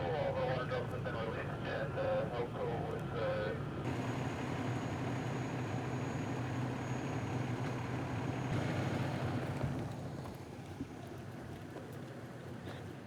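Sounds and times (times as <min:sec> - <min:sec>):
engine running with low hum: 0:01.9 - 0:13.0.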